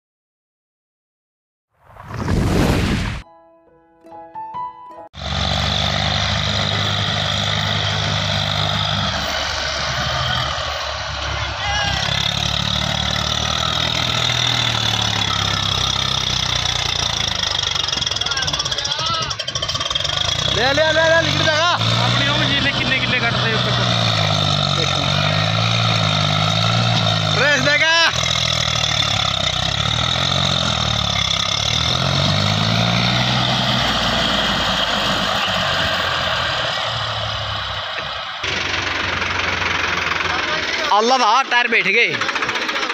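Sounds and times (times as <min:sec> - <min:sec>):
diesel tractor engine running: 0:05.2 - 0:42.9.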